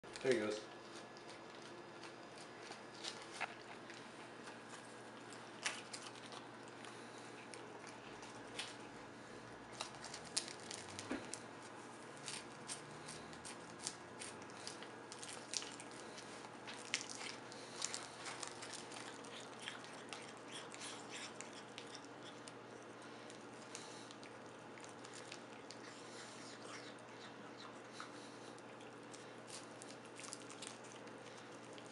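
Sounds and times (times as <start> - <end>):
faint steady hum: 0.0 - 31.9
cat chewing seaweed: 0.1 - 31.9.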